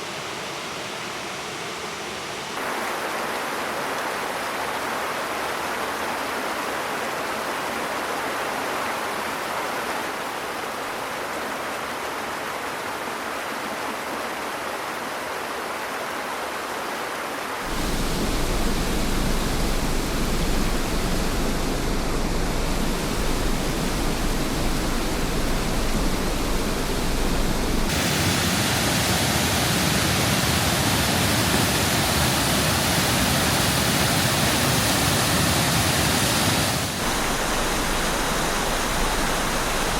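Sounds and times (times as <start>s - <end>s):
waterfalls rushing: 2.6s - 13.4s, 17.6s - 39.9s.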